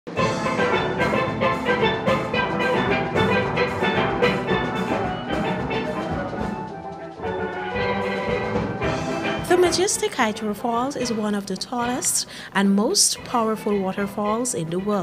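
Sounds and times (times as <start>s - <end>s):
instrumental music with percussion: 0.1s - 12.2s.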